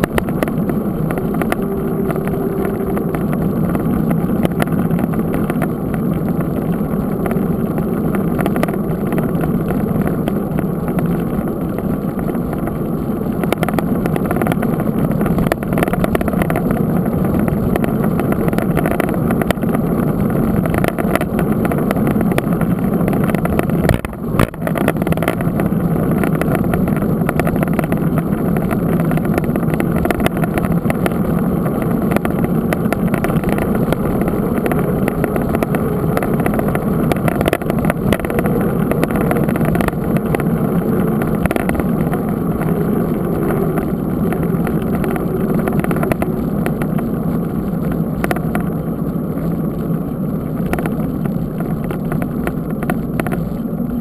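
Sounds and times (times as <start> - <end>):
bike tyre rolling on asphalt: 0.0 - 54.0
wind rushing over microphone: 0.0 - 54.0.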